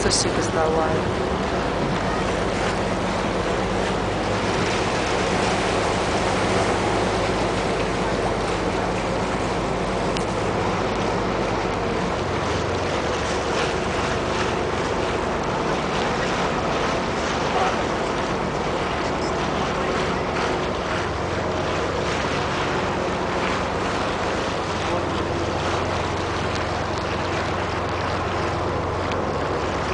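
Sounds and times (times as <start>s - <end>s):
boat engine running: 0.0s - 29.9s
water rushing along hull: 0.0s - 29.9s.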